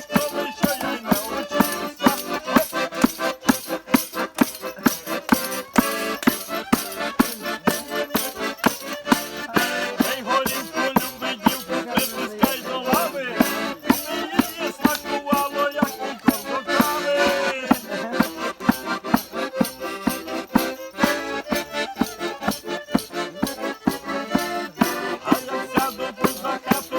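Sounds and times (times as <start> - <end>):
accordion melody: 0.0 - 26.9
folk band playing: 0.0 - 26.9
quick percussion beat: 0.0 - 26.9.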